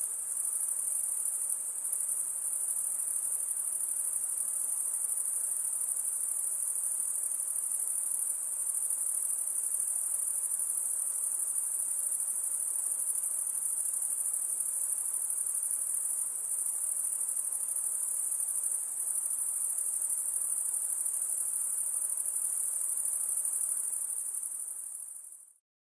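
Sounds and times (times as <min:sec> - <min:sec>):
crickets chirping: 0:00.0 - 0:25.5.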